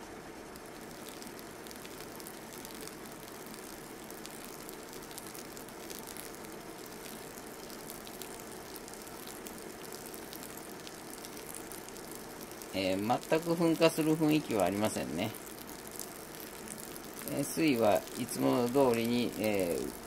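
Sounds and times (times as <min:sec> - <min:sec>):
coffee grounds crackling: 0:00.4 - 0:20.0
water pouring in thin stream: 0:00.6 - 0:20.0.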